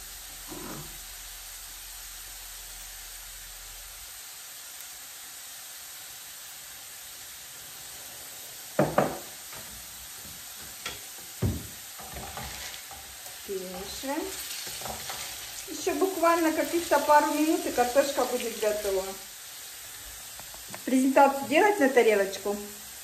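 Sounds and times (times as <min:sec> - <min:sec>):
potatoes sizzling in a frying pan: 0:00.0 - 0:23.0.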